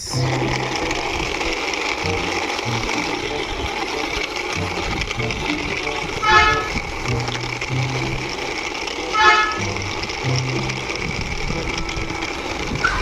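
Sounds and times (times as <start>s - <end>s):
background music: 0.0s - 13.0s
vehicle running: 0.0s - 13.0s.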